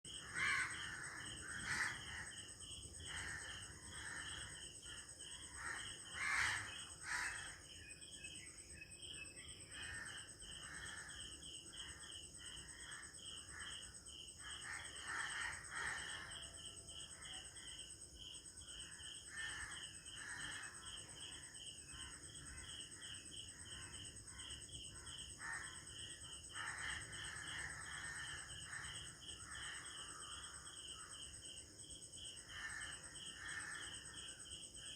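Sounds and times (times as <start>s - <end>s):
insects chirping: 0.1s - 34.9s.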